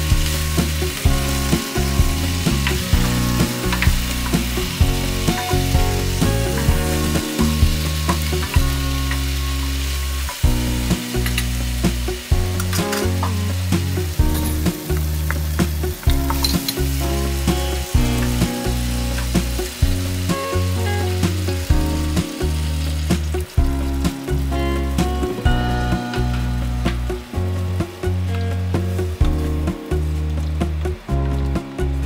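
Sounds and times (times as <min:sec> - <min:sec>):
background music of held notes: 0:00.0 - 0:32.0
potatoes sizzling in oil: 0:00.0 - 0:32.0.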